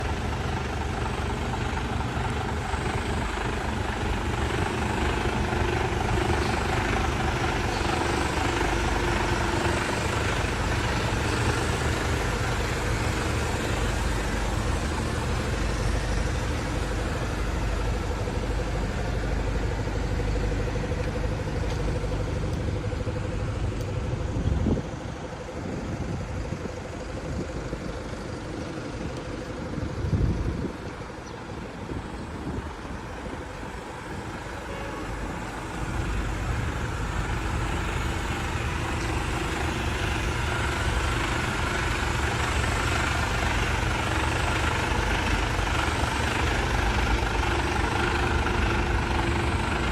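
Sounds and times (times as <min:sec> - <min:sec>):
diesel engine rumbling: 0:00.0 - 0:49.9.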